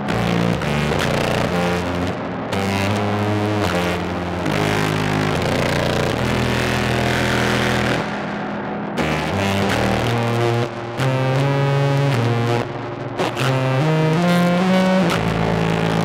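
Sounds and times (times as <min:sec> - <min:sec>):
distorted clarinet low notes: 0:00.0 - 0:16.0.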